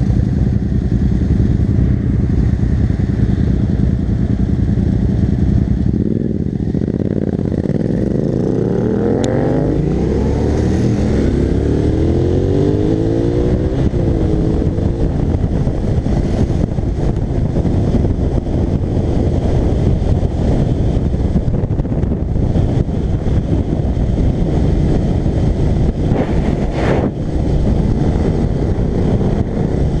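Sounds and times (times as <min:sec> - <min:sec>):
motorcycle engines accelerating: 0:00.0 - 0:30.0.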